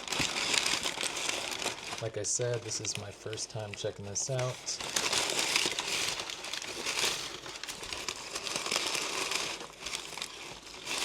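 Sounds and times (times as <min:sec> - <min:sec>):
packing material crinkling: 0:00.0 - 0:11.0.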